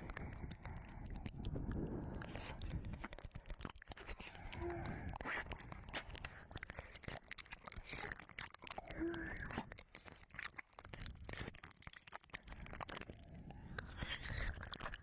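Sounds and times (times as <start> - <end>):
wet ear licking mouth sounds: 0.0 - 15.0.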